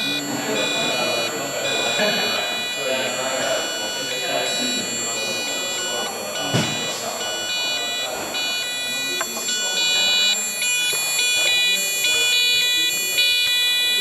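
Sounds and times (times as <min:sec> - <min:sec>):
buzzy electronic square-wave tone: 0:00.0 - 0:14.0.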